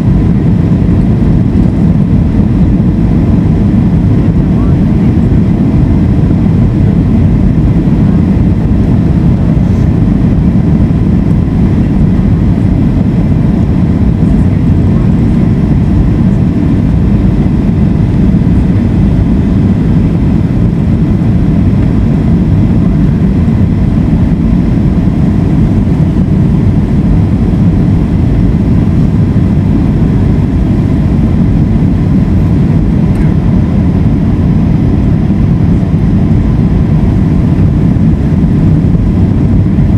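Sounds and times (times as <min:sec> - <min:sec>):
jet engines rumbling: 0:00.0 - 0:39.9
rushing air: 0:00.0 - 0:39.9.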